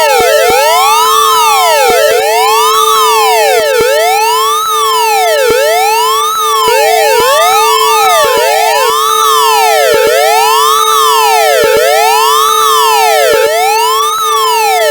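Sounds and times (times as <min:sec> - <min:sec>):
synthetic wailing siren: 0:00.0 - 0:14.9.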